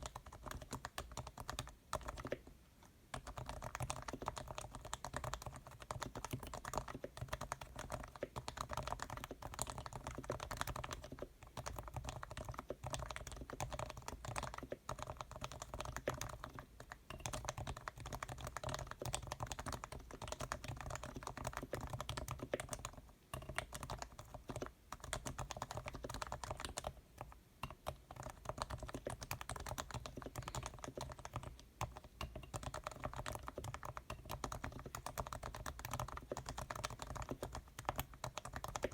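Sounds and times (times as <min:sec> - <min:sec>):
fast keyboard typing: 0:00.0 - 0:02.5, 0:03.1 - 0:38.9.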